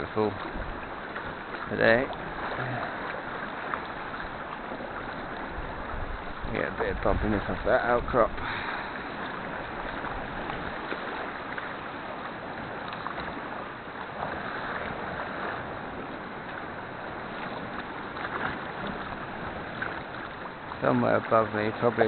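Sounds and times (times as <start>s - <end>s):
paddle splashes: 0.0s - 22.0s
water washing against hull: 0.0s - 22.0s.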